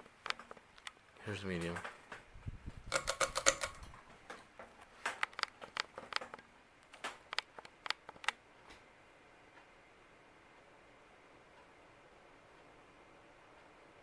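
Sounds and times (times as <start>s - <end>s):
ceiling fan clicking and ticking: 0.0s - 14.0s
faint fan whir: 0.0s - 14.0s.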